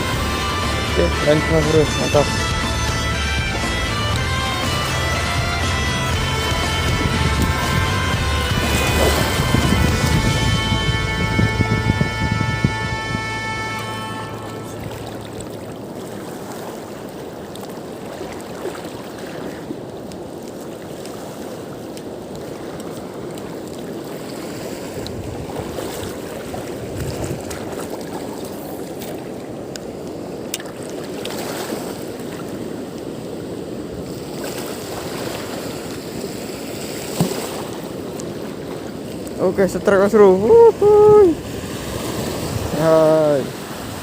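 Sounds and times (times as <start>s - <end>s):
waves lapping: 0.0s - 44.0s
wind: 0.0s - 44.0s.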